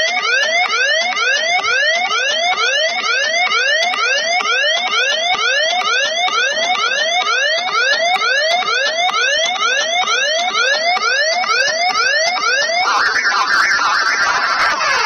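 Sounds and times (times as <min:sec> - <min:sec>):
siren sweep in trance music: 0:00.0 - 0:15.0.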